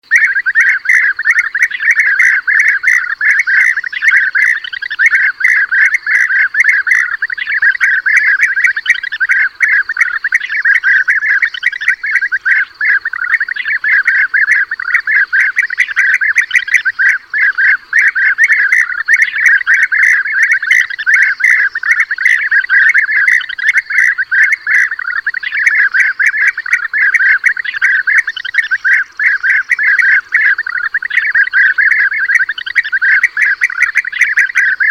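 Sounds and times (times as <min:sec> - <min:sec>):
chorus of trilled bird calls: 0:00.0 - 0:34.9.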